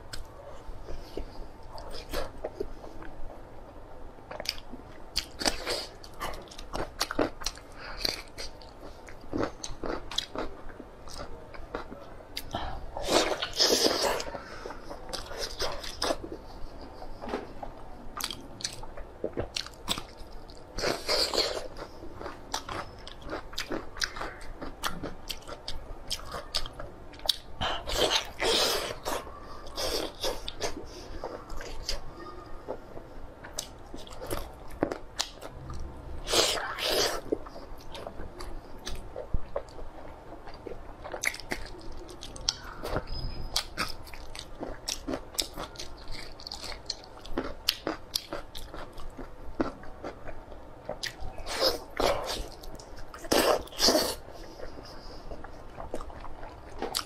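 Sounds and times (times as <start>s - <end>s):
close-miked chewing and biting: 4.3s - 17.2s, 18.2s - 32.1s, 33.4s - 57.0s.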